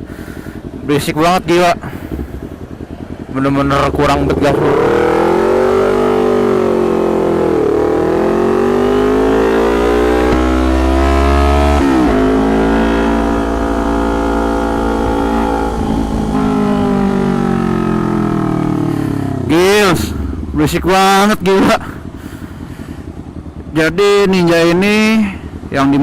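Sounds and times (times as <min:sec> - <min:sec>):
loud motorcycle engine revving: 0:00.0 - 0:26.0.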